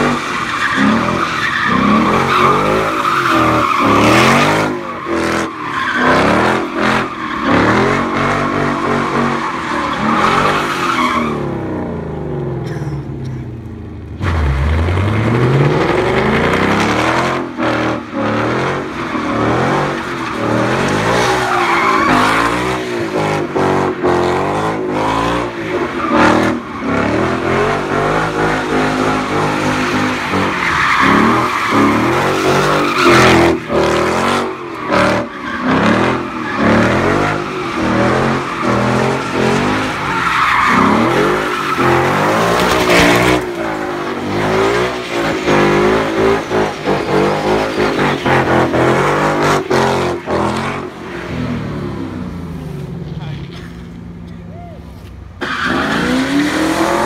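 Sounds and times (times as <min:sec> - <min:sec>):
car engine revving hard: 0:00.0 - 0:12.8, 0:14.2 - 0:52.3, 0:55.5 - 0:57.0.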